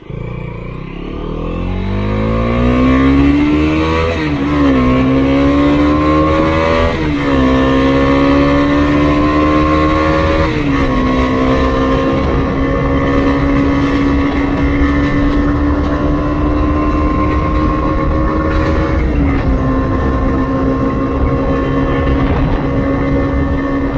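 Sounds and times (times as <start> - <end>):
motorcycle engine accelerating: 0.0 - 23.9.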